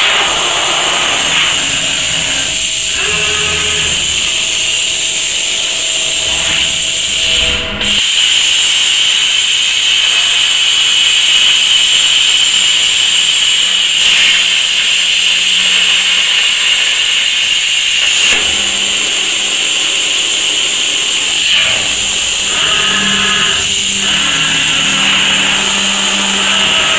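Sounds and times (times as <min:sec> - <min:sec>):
plasma torch cutting steel: 0:00.0 - 0:26.9
steady hiss: 0:00.0 - 0:26.9.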